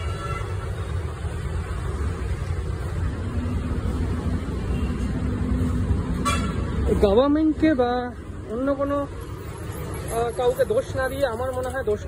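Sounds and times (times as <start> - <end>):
steady engine hum: 0.0 - 11.8
street traffic rumble: 0.0 - 12.0.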